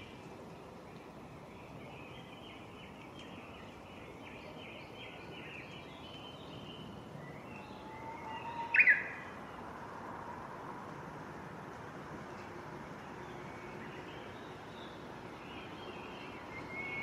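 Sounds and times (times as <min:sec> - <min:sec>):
bush warbler singing: 0:00.0 - 0:09.9, 0:12.8 - 0:17.0.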